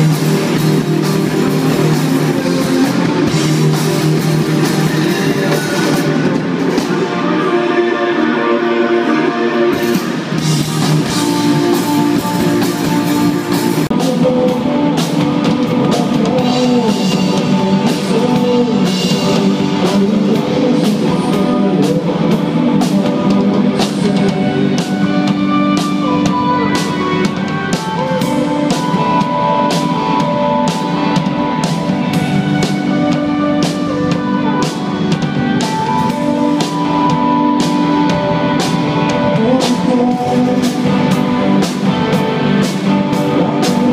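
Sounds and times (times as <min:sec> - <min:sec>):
drum kit beat: 0:00.0 - 0:07.5, 0:09.7 - 0:43.9
electric guitars: 0:00.0 - 0:43.9
rock band playing live: 0:00.0 - 0:43.9.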